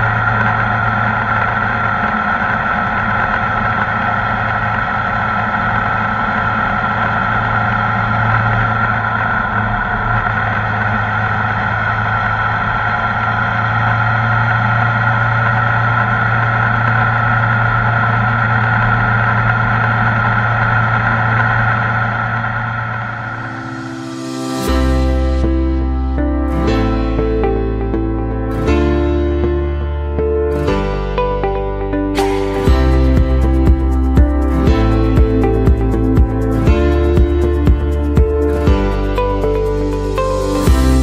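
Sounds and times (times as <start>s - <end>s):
motorcycle engine running: 0.0s - 25.0s, 32.2s - 41.0s.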